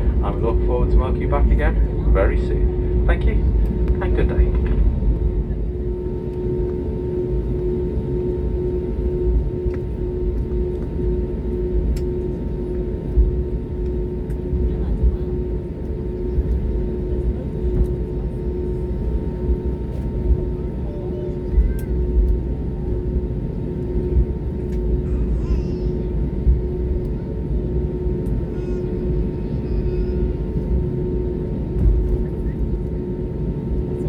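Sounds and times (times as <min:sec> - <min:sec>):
airplane cabin rumble: 0:00.0 - 0:34.0
faint pulsing hum: 0:00.0 - 0:34.0.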